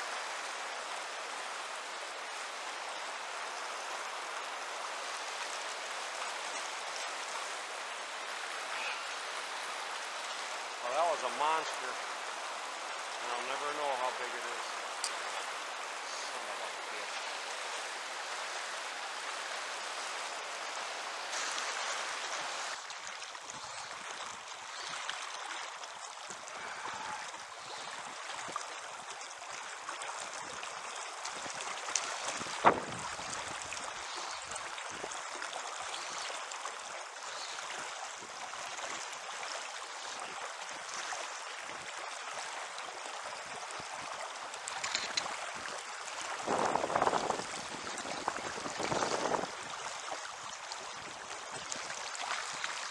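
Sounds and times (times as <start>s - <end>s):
river rushing over rapids: 0.0s - 52.9s.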